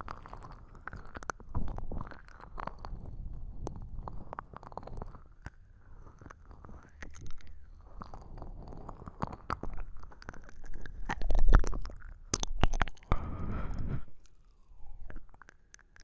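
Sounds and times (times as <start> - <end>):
wet mouth smacks and slurps: 0.0 - 14.4.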